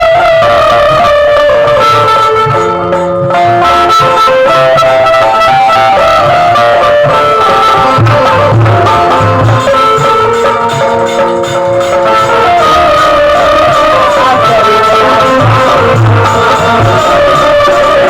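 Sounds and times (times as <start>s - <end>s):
melodic lead instrument: 0.0s - 18.0s
low drum beats: 0.4s - 18.0s.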